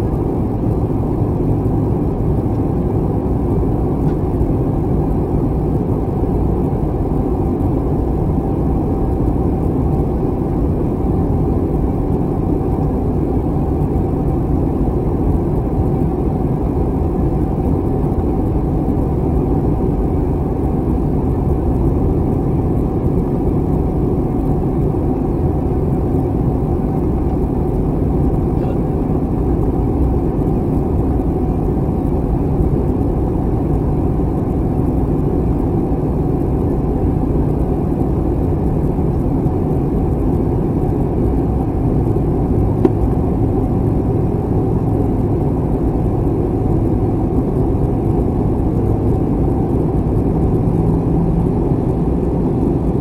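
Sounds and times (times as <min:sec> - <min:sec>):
airplane cabin engine rush: 0:00.0 - 0:53.0
faint steady hum: 0:00.0 - 0:53.0.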